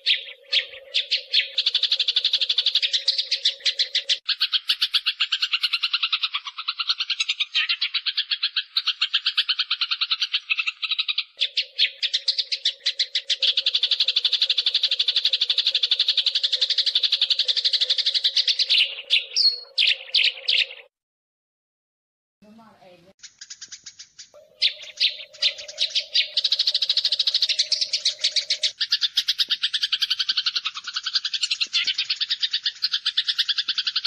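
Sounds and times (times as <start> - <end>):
sparrows chattering: 0.0 - 20.9, 22.6 - 34.0.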